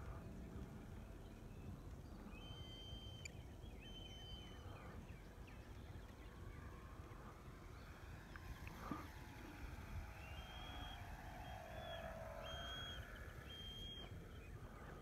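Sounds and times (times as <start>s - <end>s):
wind rumbling on microphone: 0.0s - 15.0s
faint high chirps and whistles: 1.2s - 15.0s.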